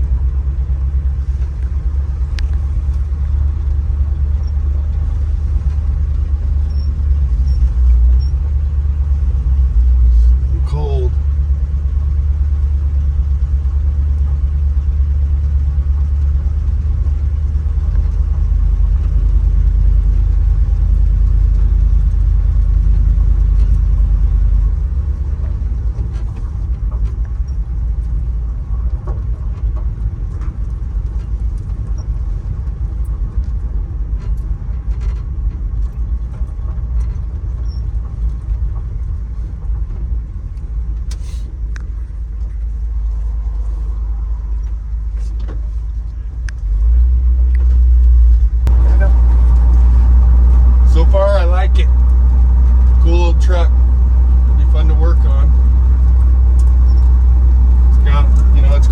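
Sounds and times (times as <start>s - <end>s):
pickup engine and road rumble: 0.0s - 58.9s
light rattles and clicks: 0.9s - 58.9s.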